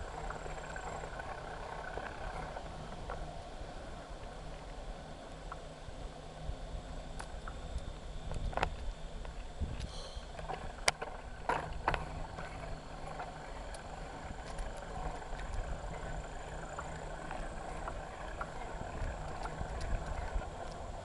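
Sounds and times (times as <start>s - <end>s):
bicycle tyre rumble: 0.0s - 21.0s.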